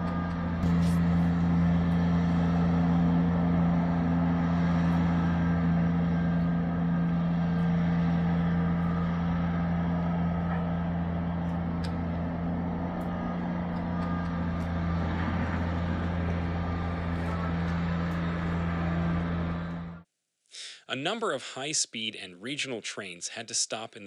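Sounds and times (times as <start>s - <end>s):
car engine drone: 0.0s - 20.0s
road noise hiss: 0.0s - 20.0s.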